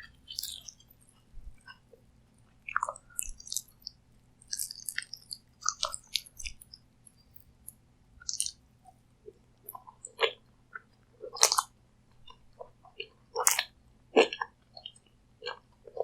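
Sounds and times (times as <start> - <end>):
chewing food: 0.0 - 8.6, 9.6 - 16.0.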